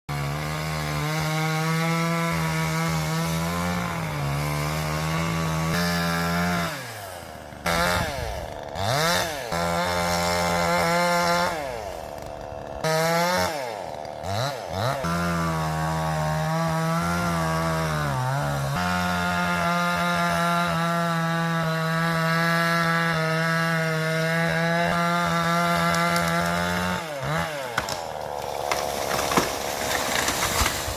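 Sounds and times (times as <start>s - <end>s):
chainsaw cutting wood: 0.1s - 30.9s.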